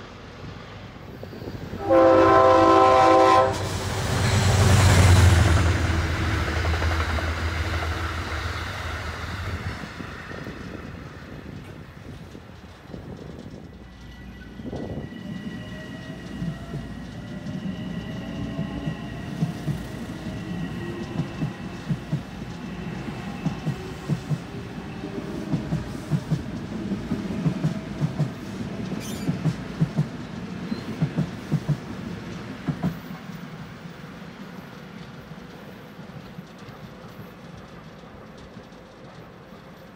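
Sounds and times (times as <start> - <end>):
train rumble: 0.0 - 39.9
train wheels clicking on rails: 2.8 - 39.9.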